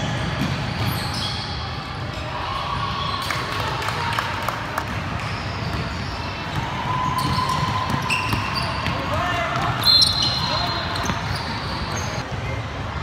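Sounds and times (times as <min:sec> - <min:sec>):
sneakers squeaking: 0:00.0 - 0:03.4, 0:04.8 - 0:12.4.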